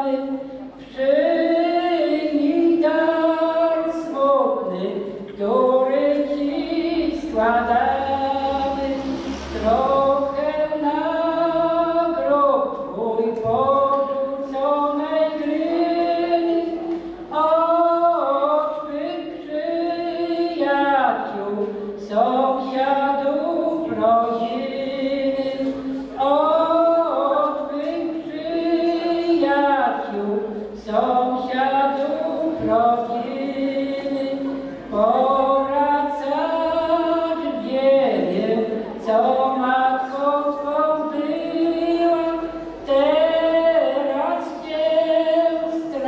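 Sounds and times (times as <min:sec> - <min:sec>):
elderly man singing unaccompanied: 0:00.0 - 0:46.0.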